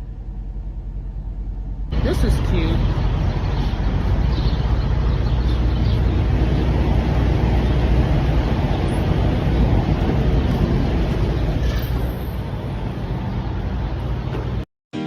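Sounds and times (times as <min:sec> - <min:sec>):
road noise: 0:00.0 - 0:14.7
truck engine rumble: 0:00.0 - 0:14.7.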